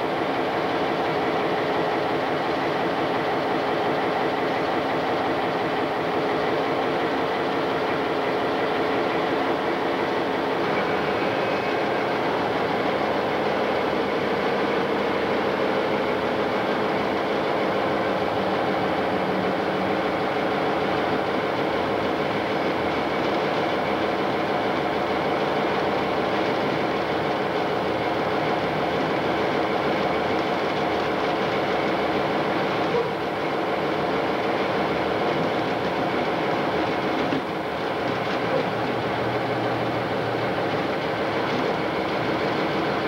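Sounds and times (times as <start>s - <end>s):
diesel locomotive engine drone: 0.0s - 43.0s
wheels rumbling on rails: 2.4s - 43.0s.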